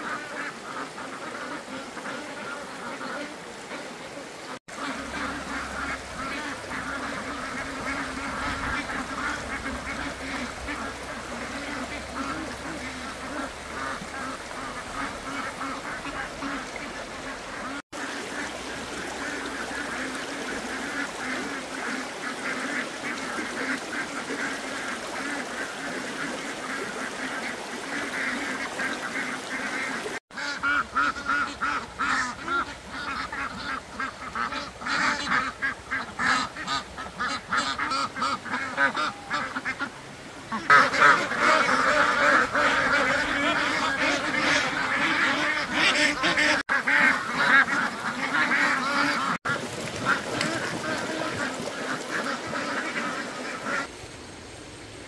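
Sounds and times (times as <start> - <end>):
ducks quacking: 0.0 - 39.9, 40.5 - 53.9.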